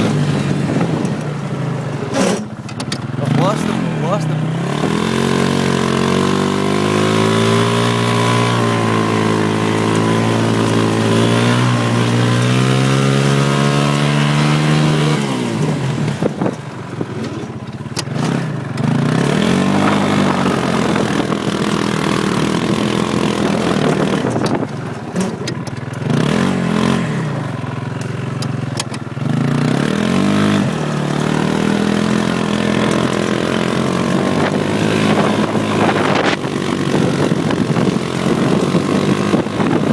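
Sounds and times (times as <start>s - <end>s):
buggy engine revving: 0.0s - 39.9s.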